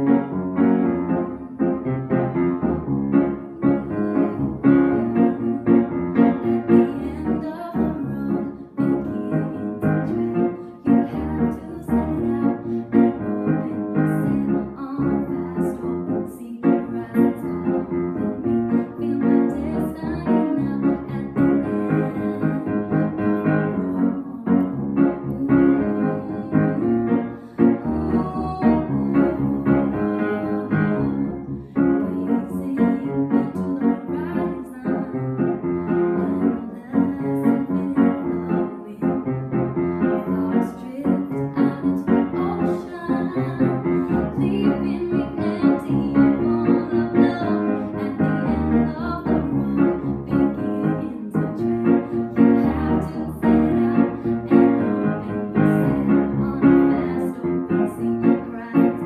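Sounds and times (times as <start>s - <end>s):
piano music: 0.0s - 59.0s
woman singing: 3.3s - 59.0s.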